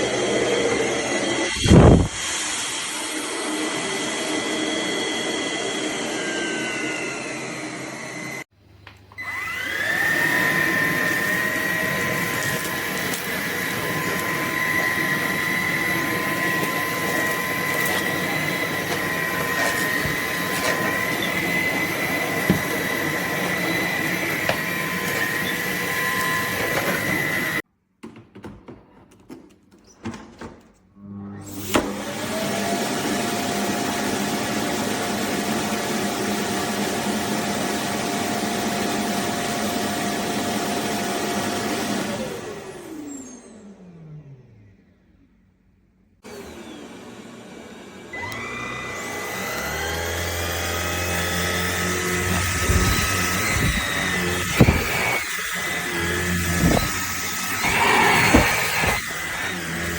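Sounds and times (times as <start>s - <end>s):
stick vacuum whining: 0.0s - 27.6s, 31.5s - 44.9s, 46.2s - 59.9s.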